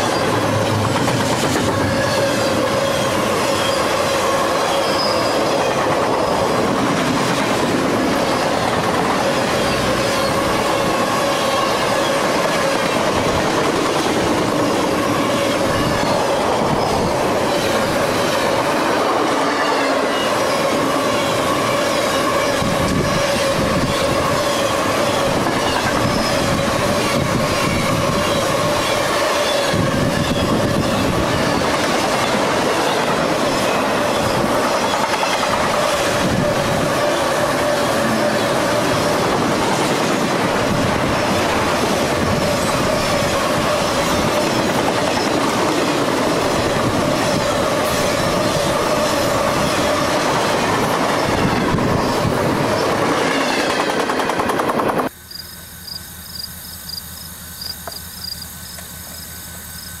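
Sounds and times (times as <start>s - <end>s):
freight train wheels on rails: 0.0s - 60.0s
squealing train wheels: 0.0s - 60.0s.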